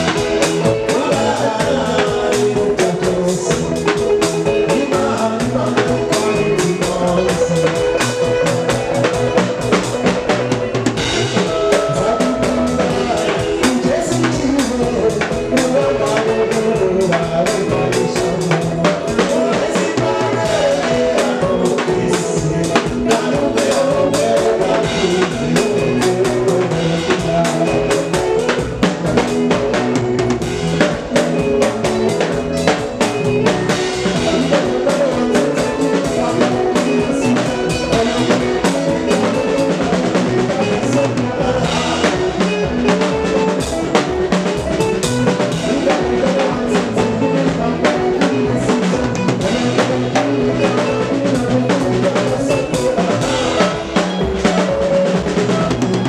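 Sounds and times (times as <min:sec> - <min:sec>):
bass guitar: 0:00.0 - 0:56.0
drum kit playing busy beat: 0:00.0 - 0:56.0
keyboard: 0:00.0 - 0:56.0.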